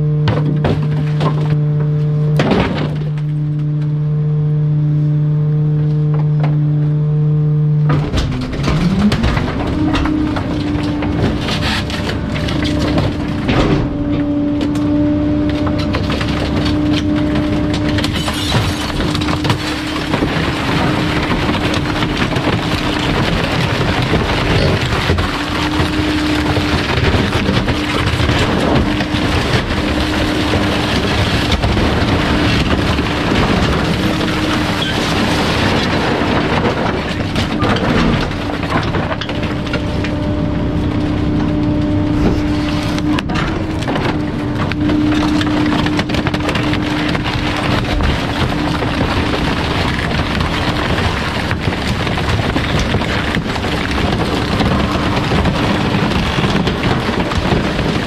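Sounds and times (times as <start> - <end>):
truck engine and hydraulics whining: 0.0 - 58.0
items cracking and snapping: 7.9 - 58.0.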